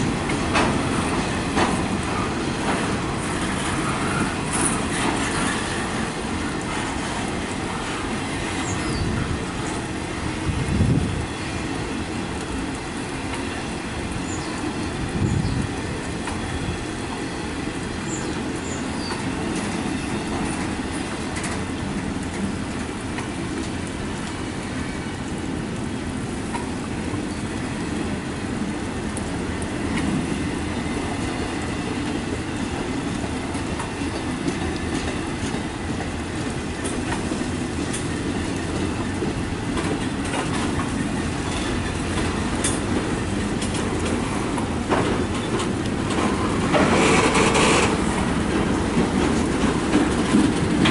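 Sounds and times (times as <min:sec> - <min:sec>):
freight train rolling past: 0:00.0 - 0:50.9
wheels clicking over rail joints: 0:00.0 - 0:50.9.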